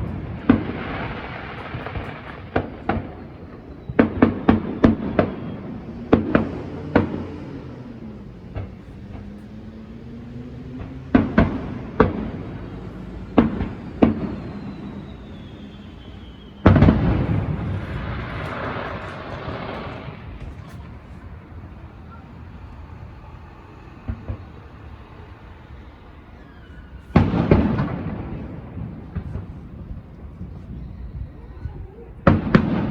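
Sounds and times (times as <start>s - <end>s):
fireworks crackling: 0.0s - 30.8s
fireworks booming: 0.0s - 31.4s, 32.1s - 32.9s.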